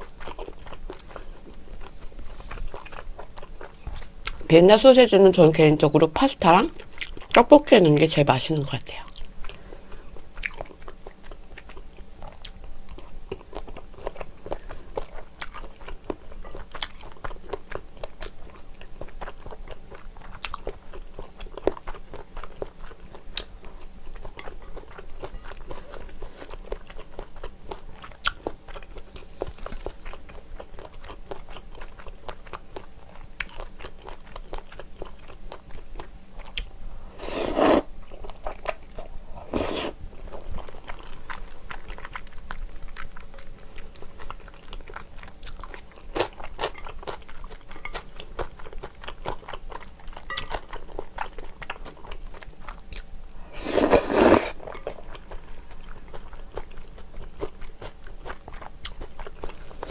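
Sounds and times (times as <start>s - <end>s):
chewing with wet mouth clicks: 0.0s - 4.5s, 6.8s - 7.4s, 9.0s - 36.7s, 40.2s - 53.2s, 54.5s - 59.8s.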